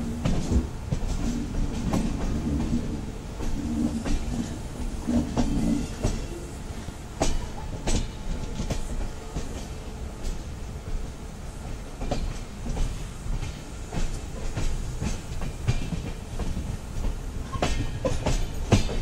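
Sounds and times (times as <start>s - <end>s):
train wheels rumbling on track: 0.0s - 19.0s
wheels clicking over rail joints: 0.0s - 19.0s.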